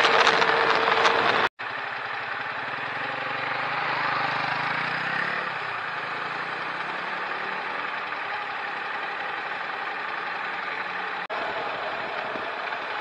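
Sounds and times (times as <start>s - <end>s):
car engine idling: 0.0s - 13.0s
road noise inside a car: 0.0s - 13.0s.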